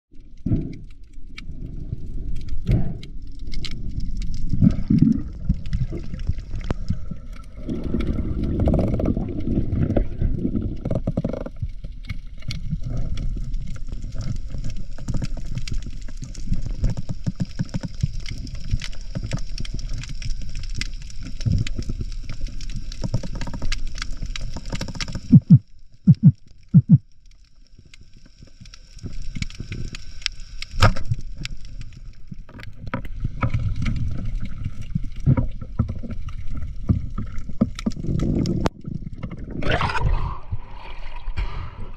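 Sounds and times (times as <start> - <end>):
small underwater clicks and crackles: 0.1 - 41.9
underwater water movement rumble: 0.1 - 41.9.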